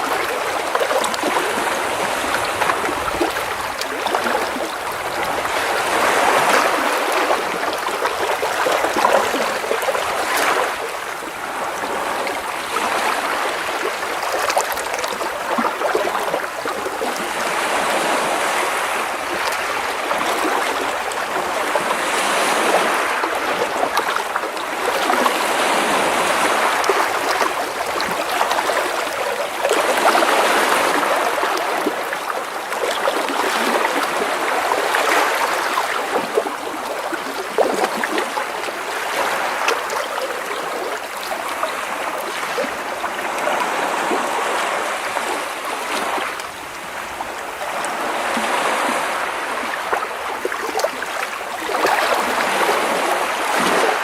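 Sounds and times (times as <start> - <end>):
waves splashing against rocks: 0.0 - 54.0.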